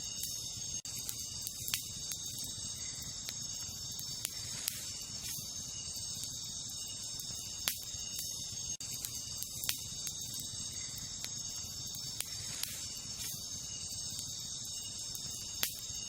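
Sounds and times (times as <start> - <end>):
insect chorus: 0.0 - 16.0
wood fire crackling: 0.0 - 16.0.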